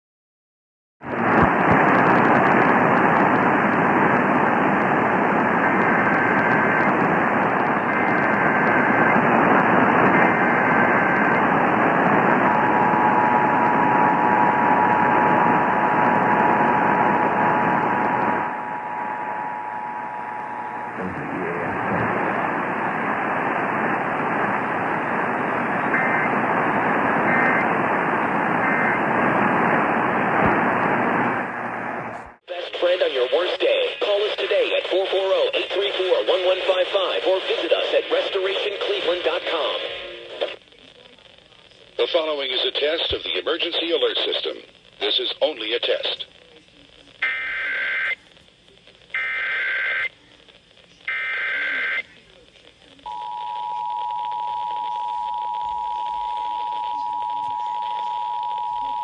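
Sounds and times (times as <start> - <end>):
radio hiss: 1.0 - 59.0.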